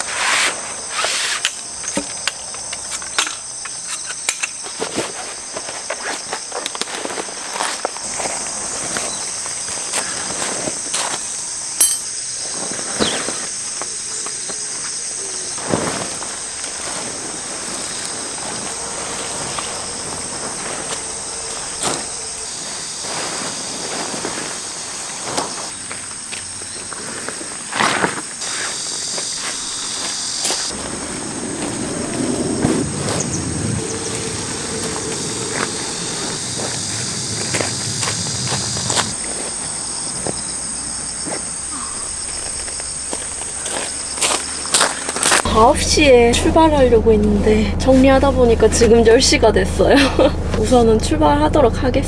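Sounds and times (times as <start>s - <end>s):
insects chirring: 0.0s - 52.0s
tent fabric rustling: 3.8s - 45.6s.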